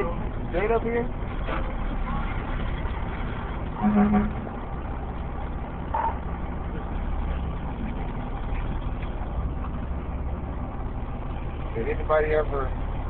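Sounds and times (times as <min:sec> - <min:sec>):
fire engine idling: 0:00.0 - 0:13.0.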